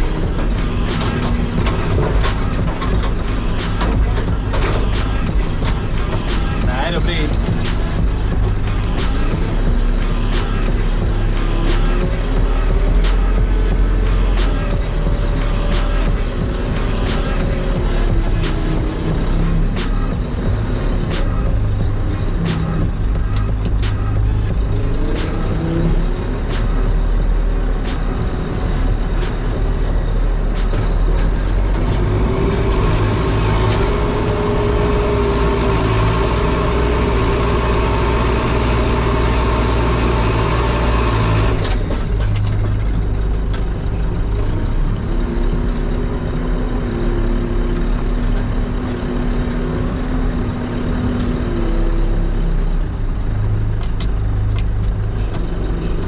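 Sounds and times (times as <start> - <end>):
heavy diesel machine running: 0.0 - 56.0.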